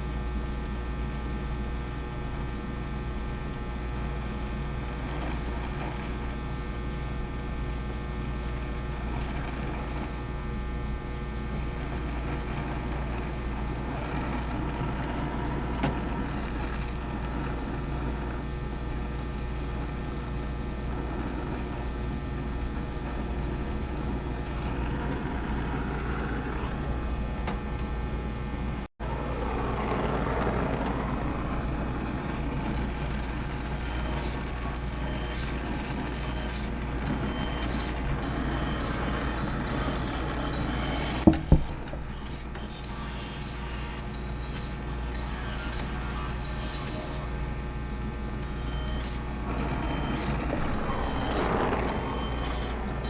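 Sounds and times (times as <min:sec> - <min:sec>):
machinery humming with low rumble: 0:00.0 - 0:53.0.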